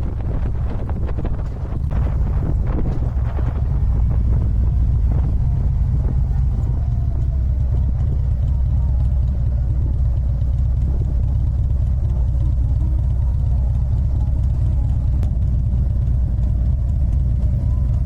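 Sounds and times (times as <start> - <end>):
motorcycle engine droning: 0.0 - 18.0.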